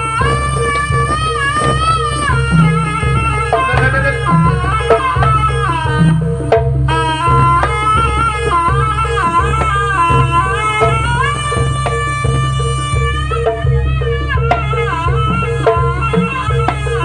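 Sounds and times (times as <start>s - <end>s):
drums and gong percussion: 0.0s - 17.0s
high bending melody line: 0.0s - 17.0s.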